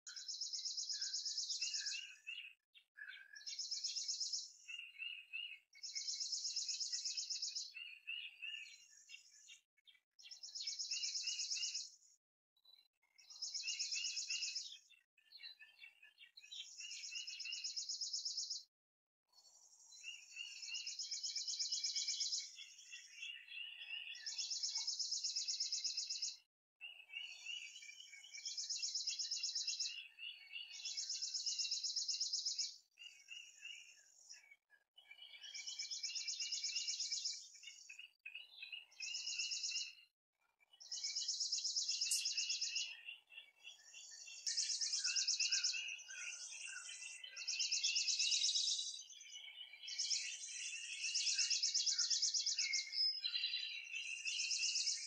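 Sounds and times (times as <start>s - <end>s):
songbirds singing trills: 0.0s - 18.7s, 19.3s - 55.0s.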